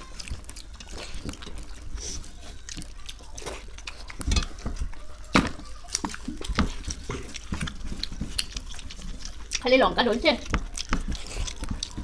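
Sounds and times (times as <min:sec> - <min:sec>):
fingers squishing through rice: 0:00.0 - 0:12.0
wet chewing and slurping: 0:00.0 - 0:12.0.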